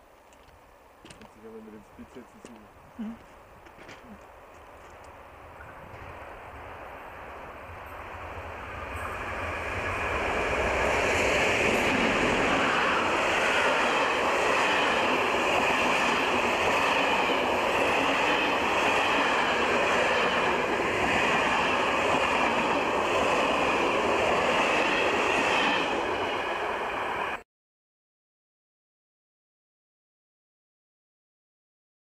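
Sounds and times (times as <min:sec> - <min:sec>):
train wheels on rails: 0:00.0 - 0:27.4.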